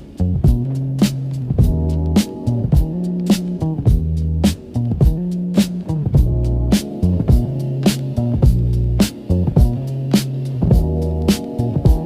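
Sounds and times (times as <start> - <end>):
funk background music: 0.0 - 12.0.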